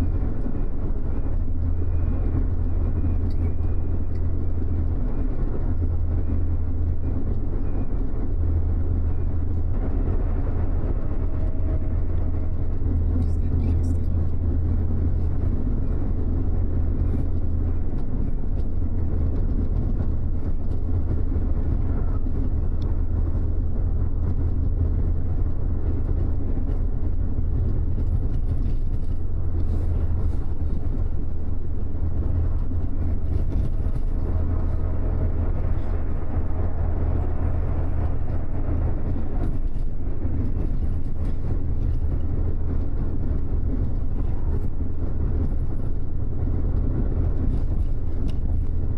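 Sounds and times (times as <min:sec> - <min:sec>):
bus engine drone: 0:00.0 - 0:48.9
road and tyre noise: 0:00.0 - 0:48.9.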